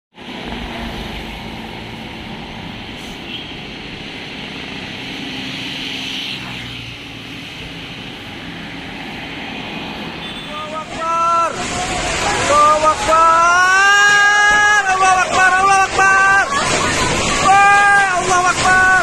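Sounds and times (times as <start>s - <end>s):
traffic noise: 0.1s - 19.0s.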